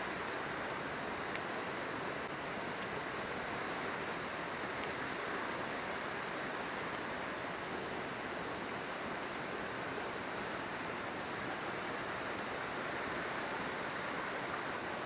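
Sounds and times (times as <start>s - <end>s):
campfire crackles: 0.0s - 15.0s
river rushing: 0.0s - 15.0s.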